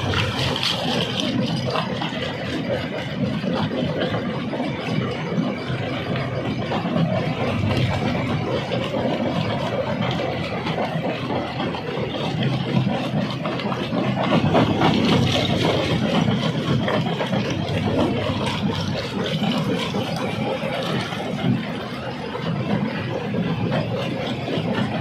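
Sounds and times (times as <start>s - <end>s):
stone-crushing machinery drone: 0.0s - 25.0s.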